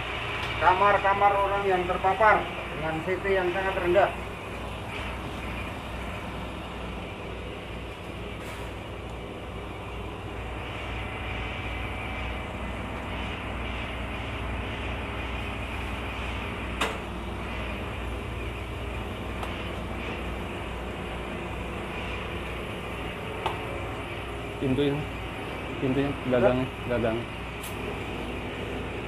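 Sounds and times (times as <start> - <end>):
sprayer hissing over hum: 0.0 - 29.0.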